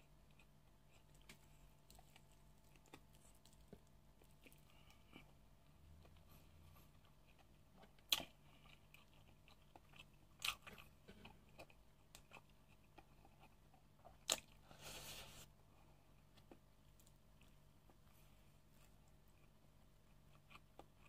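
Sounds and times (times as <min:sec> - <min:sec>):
faint chewing: 0:00.0 - 0:21.0.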